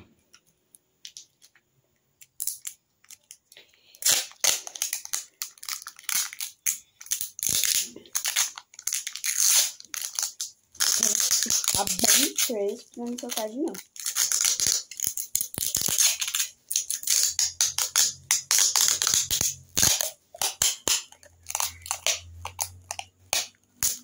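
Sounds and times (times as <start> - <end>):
packing tape clicks: 2.2 - 24.0
tape ripping off roll: 3.9 - 24.0.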